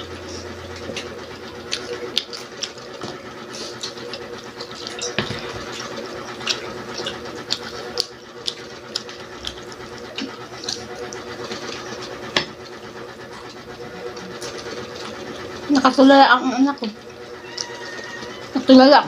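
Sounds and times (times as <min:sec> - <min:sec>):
person chewing crunchy food: 0:00.0 - 0:15.6, 0:17.0 - 0:18.6
steady electric hum: 0:00.0 - 0:19.0.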